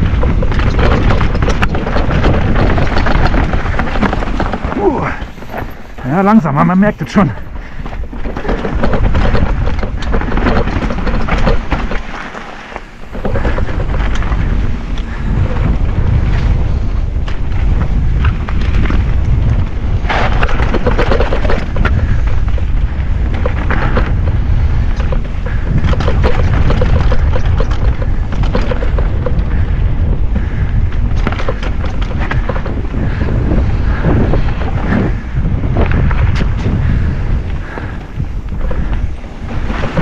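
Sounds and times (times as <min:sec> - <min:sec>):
bike rattling over rough trail: 0:00.0 - 0:40.0
wind buffeting microphone: 0:00.0 - 0:40.0.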